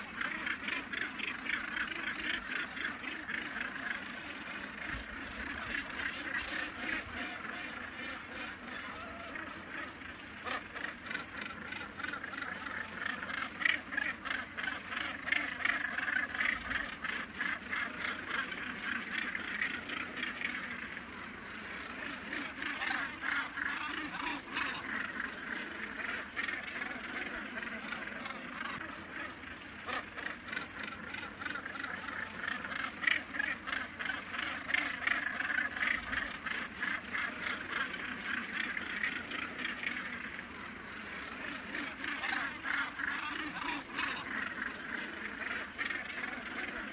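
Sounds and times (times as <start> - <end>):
seabird colony calling: 0.0 - 46.9.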